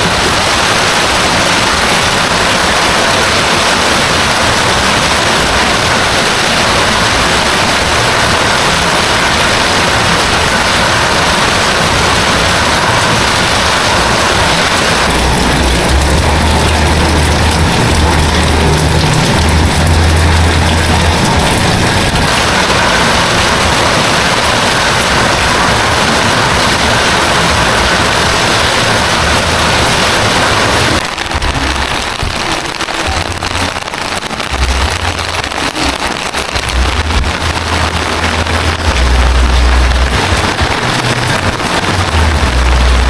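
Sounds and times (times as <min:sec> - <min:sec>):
heavy rain: 0:00.0 - 0:43.0.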